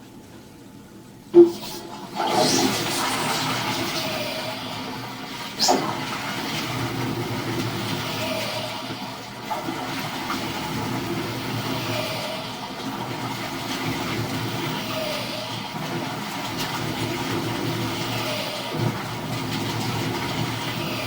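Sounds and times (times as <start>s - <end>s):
toilet flush water rushing: 1.4s - 21.0s.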